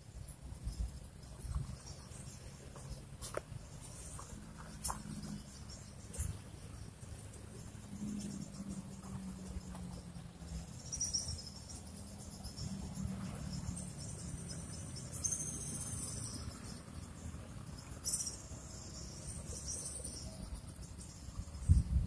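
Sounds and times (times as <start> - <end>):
insects trilling: 0.0 - 22.0
low steady rumble: 0.0 - 22.0.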